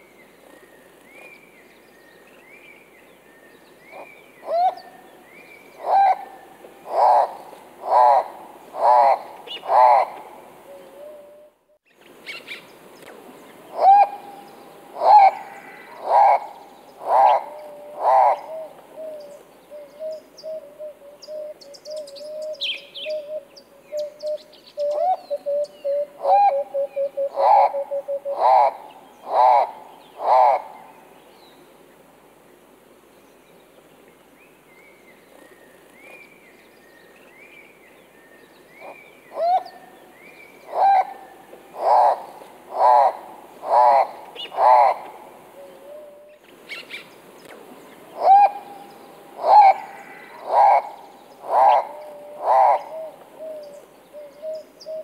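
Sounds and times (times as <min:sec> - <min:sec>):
birds calling: 0:02.9 - 0:11.2, 0:11.9 - 0:31.6, 0:34.8 - 0:55.0.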